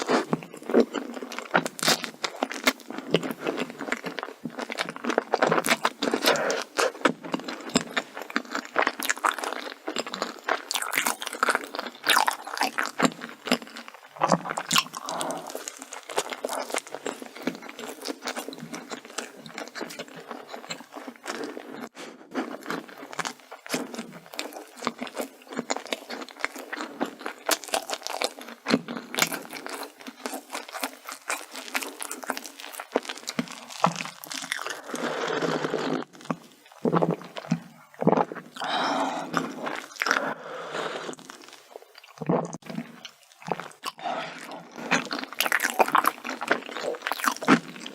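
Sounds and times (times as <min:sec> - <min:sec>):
crunching bites and chewing: 0:00.0 - 0:40.4, 0:41.0 - 0:47.9.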